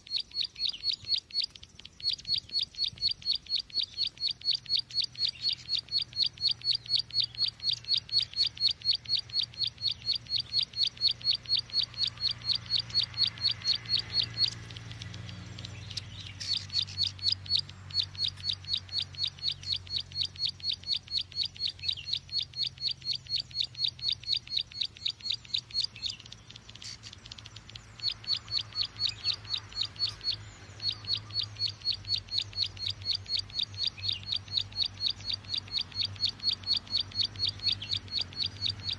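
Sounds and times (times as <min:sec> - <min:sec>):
short high bird chirps: 0:00.0 - 0:38.9.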